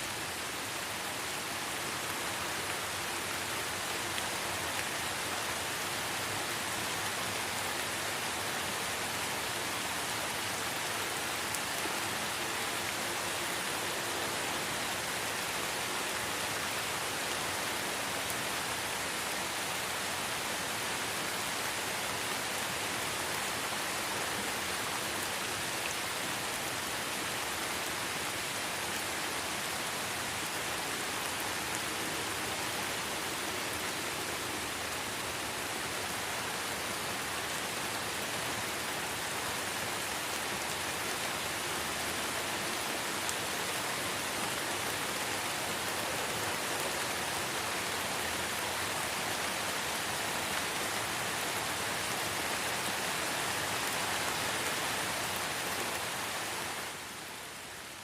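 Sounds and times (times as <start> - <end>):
light rain on foliage: 0.0 - 58.0.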